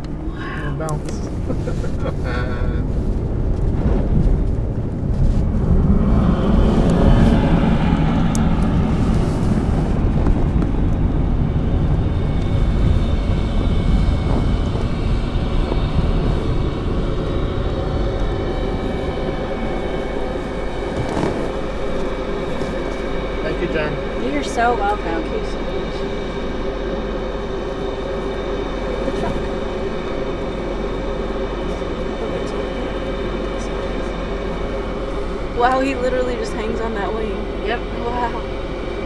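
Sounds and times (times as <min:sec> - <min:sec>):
car engine and road rumble: 0:00.0 - 0:39.0
jet engine whining: 0:00.0 - 0:39.0.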